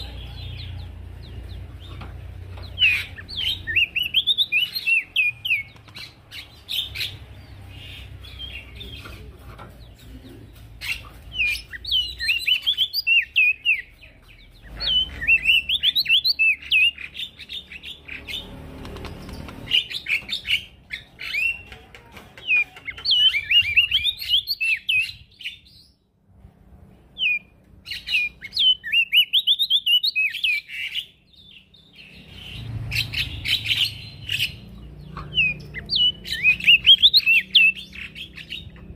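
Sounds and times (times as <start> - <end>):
bird chirping rapidly: 0.0 - 9.0, 9.8 - 21.7, 22.4 - 26.0, 27.2 - 38.9.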